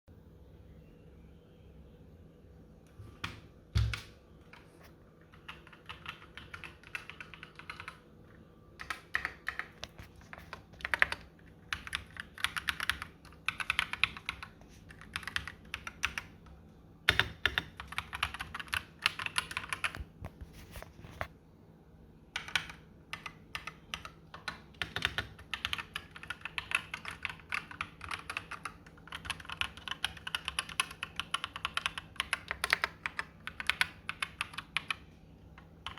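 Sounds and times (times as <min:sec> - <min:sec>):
mechanical keyboard typing: 0:03.2 - 0:08.1, 0:08.8 - 0:20.2, 0:22.3 - 0:35.9.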